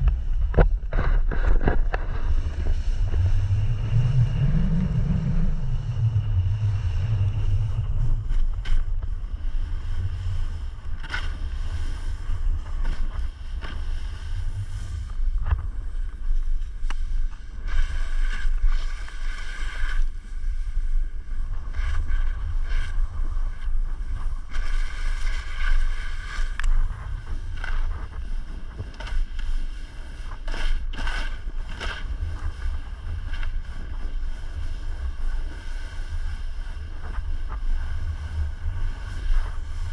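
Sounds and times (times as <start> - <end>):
ski edges scraping snow: 0.0 - 39.9
wind buffeting microphone: 0.0 - 39.9.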